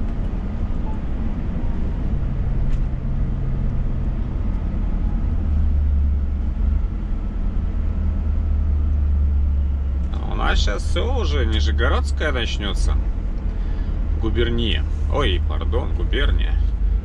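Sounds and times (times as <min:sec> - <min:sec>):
low hum: 0:00.0 - 0:17.0
truck engine and tyres droning: 0:00.0 - 0:17.0.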